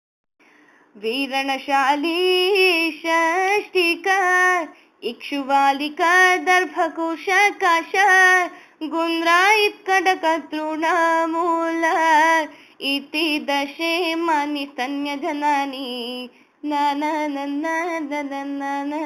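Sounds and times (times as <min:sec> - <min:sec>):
woman singing: 0:01.0 - 0:19.0.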